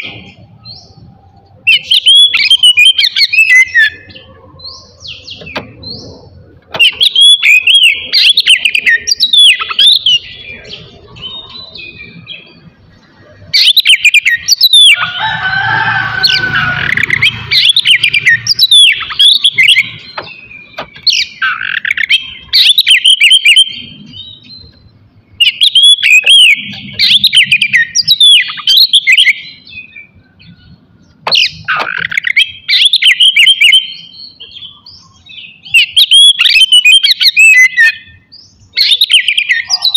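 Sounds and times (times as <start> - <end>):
magpie-robin whistled song: 0.0 - 39.9.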